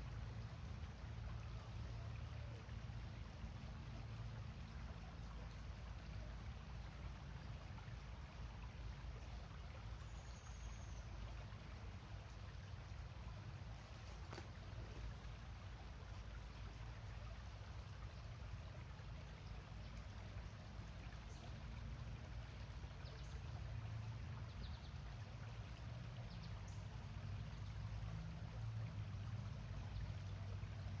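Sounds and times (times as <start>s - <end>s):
small stream flowing over rocks: 0.0s - 31.0s.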